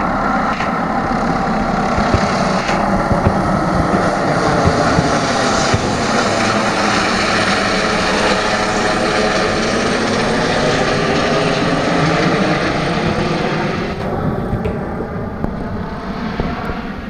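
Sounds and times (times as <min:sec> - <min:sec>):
helicopter passing overhead: 0:00.0 - 0:17.0.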